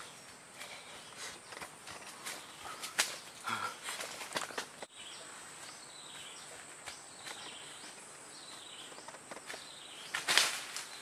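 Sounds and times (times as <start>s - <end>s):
footsteps through undergrowth: 0.0s - 11.0s.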